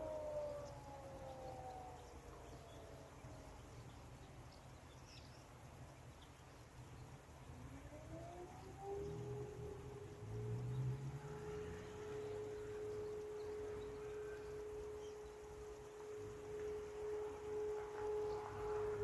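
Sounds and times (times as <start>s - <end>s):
civil defence siren steady tone: 0.0s - 19.0s.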